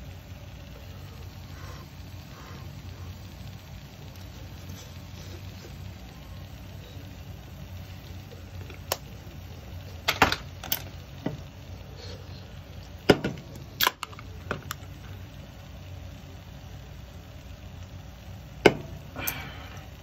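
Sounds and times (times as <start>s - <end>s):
shrimp frying with pops: 0.0s - 20.0s
steady low hum: 0.0s - 20.0s.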